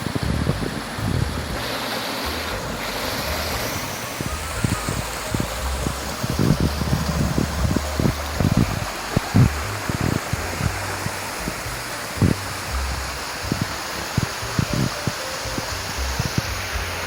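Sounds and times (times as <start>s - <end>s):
low thumps from gusts: 0.0s - 17.0s
wind buffeting microphone: 0.0s - 17.0s.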